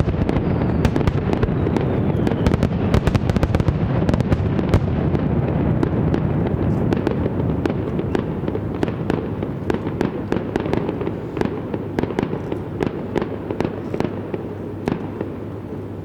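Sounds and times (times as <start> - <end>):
fireworks crackling: 0.0 - 15.7.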